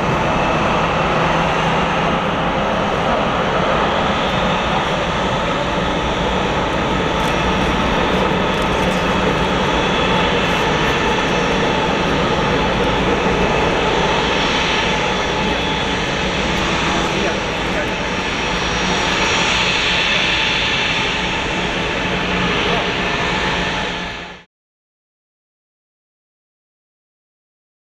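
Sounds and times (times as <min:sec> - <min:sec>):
jet engines roaring: 0:00.0 - 0:24.5.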